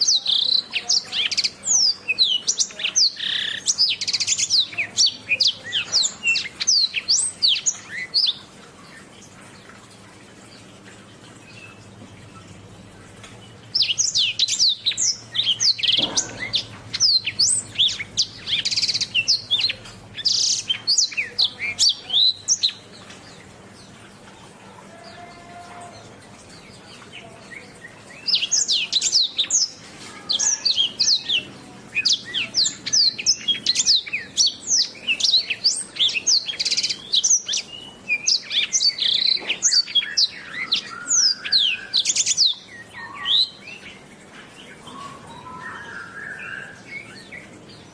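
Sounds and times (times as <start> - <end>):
canary singing trills: 0.0 - 9.6, 10.5 - 47.9.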